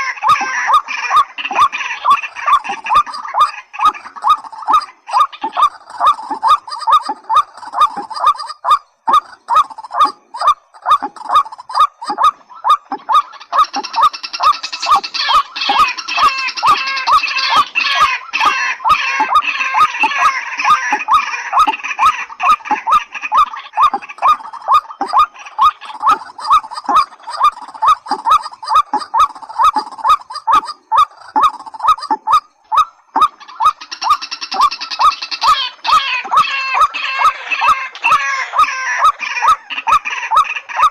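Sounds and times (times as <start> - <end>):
rail bird calling: 0.0 - 40.9.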